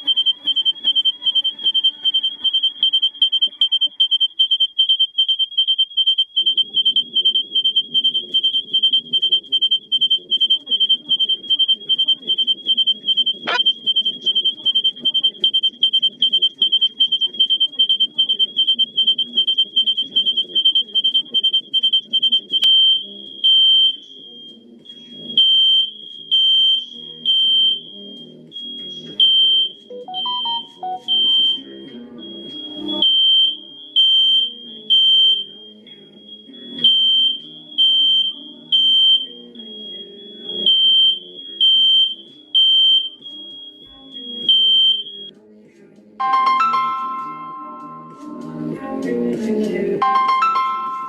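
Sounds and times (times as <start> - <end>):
fire alarm beeping: 0.0 - 45.3, 46.2 - 48.8, 50.0 - 51.0.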